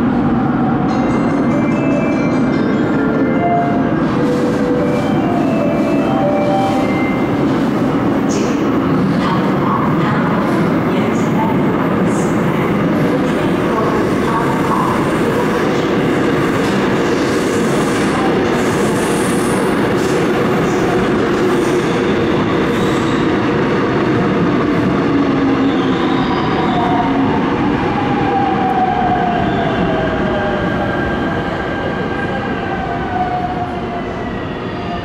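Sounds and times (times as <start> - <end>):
train wheels on rails: 0.8 - 29.2.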